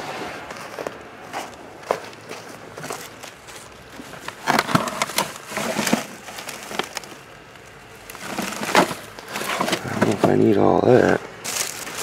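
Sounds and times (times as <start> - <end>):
plastic bags rustling and crinkling: 0.4 - 12.0.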